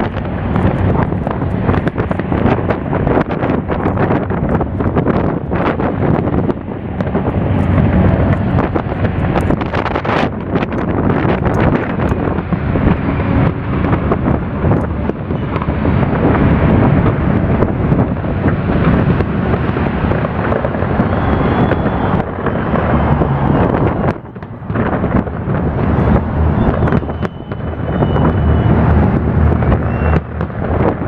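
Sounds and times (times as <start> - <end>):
fireworks bangs and crackling: 0.0 - 31.0
wind rumbling on microphone: 0.0 - 31.0.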